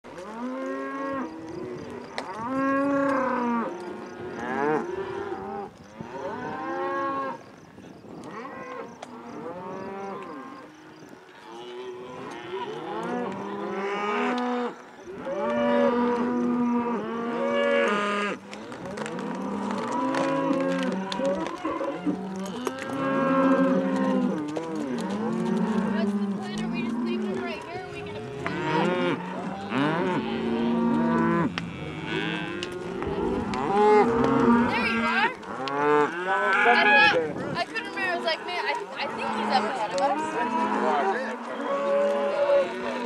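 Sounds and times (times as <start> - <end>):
cattle mooing and bellowing: 0.1 - 7.5, 8.2 - 43.0.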